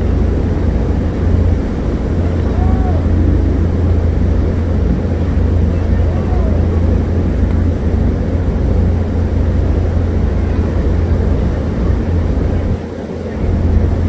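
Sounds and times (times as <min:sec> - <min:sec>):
boat engine rumble: 0:00.0 - 0:14.0
wind on microphone: 0:00.0 - 0:14.0.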